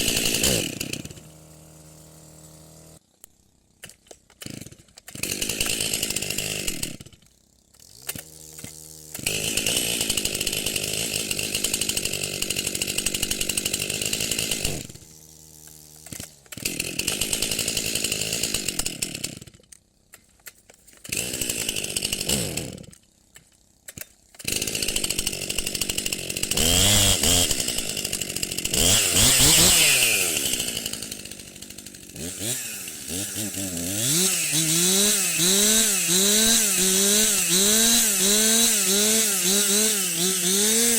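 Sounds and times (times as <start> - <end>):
chainsaw revving and idling: 0.0 - 20.2, 20.9 - 40.9.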